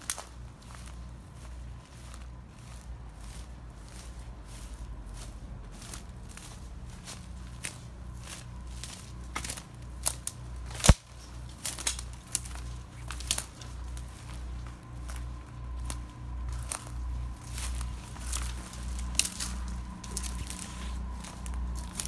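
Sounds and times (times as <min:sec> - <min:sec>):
footsteps walking: 0:00.0 - 0:22.0.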